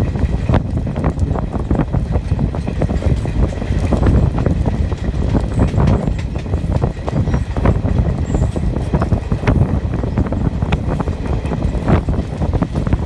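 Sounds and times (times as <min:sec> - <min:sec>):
train wheel and rail rumble: 0:00.0 - 0:13.0
train wheels clattering: 0:00.0 - 0:13.0.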